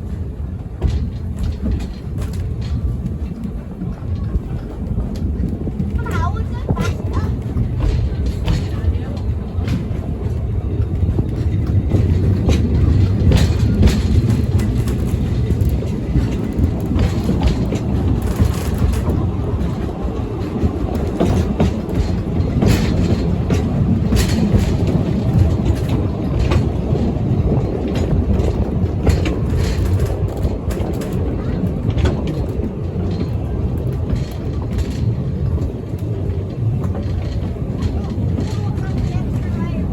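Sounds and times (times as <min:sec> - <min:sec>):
train rumbling: 0:00.0 - 0:39.9
wheels clicking over rail joints: 0:00.0 - 0:39.9.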